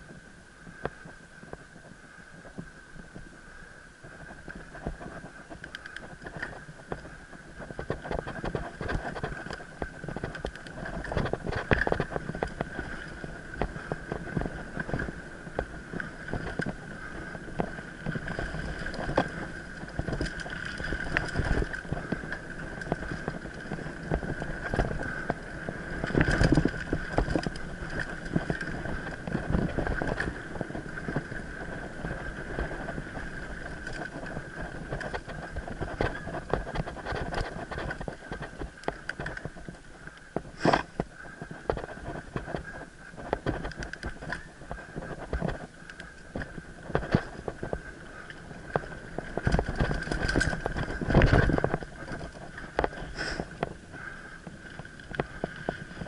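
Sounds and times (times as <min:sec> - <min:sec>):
bike rattling over bumps: 0:00.9 - 0:56.0.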